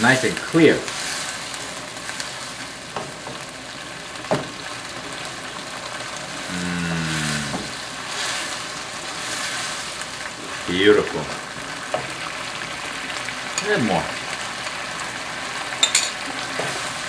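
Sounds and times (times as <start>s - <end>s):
vegetables sizzling in a wok: 0.0s - 17.0s.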